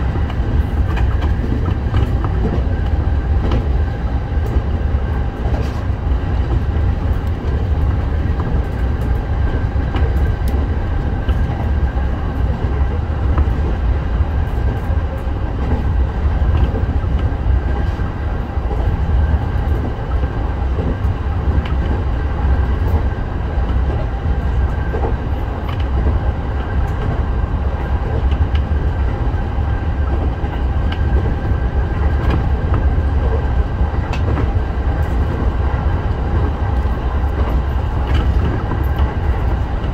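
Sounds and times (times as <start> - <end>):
electric train whine: 0.0 - 39.9
train heavy rumble: 0.0 - 39.9.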